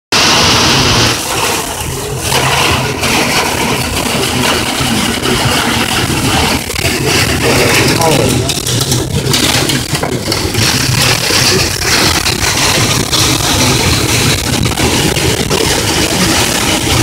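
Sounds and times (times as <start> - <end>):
hail and rain drumming on car roof: 0.2 - 17.0.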